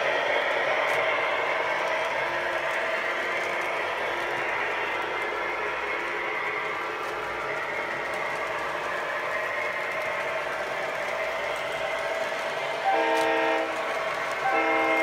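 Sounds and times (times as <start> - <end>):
model train motors whirring: 0.0 - 15.0
wheels rolling on track: 0.0 - 15.0.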